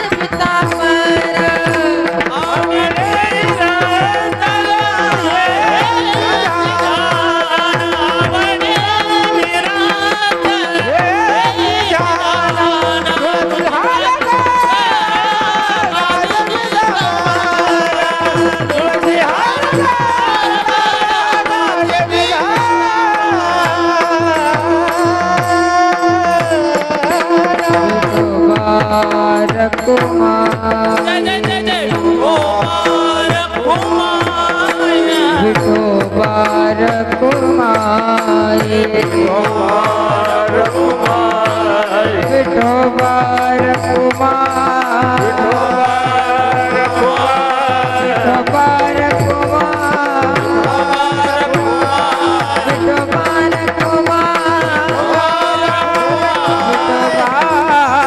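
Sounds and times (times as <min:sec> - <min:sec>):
hand drum beat: 0:00.0 - 0:58.0
high solo voice singing: 0:00.0 - 0:58.0.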